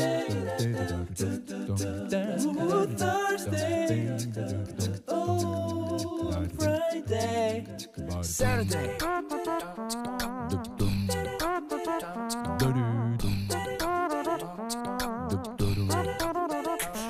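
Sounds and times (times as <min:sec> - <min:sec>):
song with singing: 0:00.0 - 0:12.9, 0:13.5 - 0:14.7, 0:15.8 - 0:17.0.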